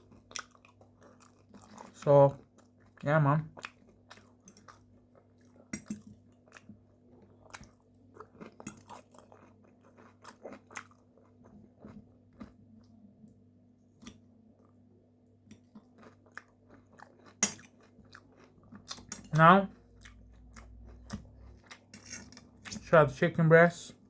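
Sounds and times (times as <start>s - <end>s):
chewing and crunching food: 0.0s - 13.1s, 14.0s - 23.0s.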